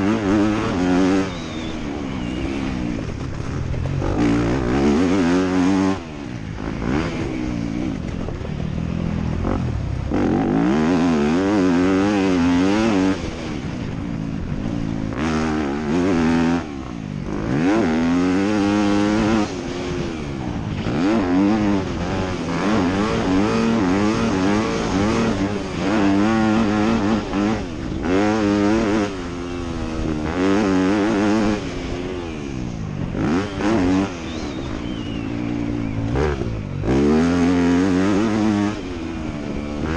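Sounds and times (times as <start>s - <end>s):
dirt bike engine racing: 0.0s - 39.9s.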